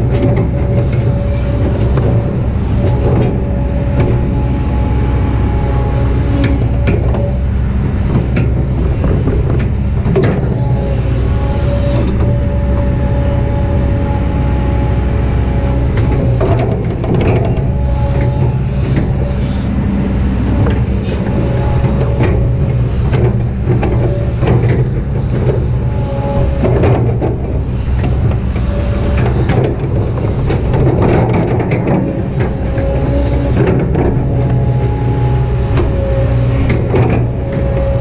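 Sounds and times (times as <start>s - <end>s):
excavator diesel engine: 0.0s - 38.0s
hydraulic whine: 0.0s - 38.0s.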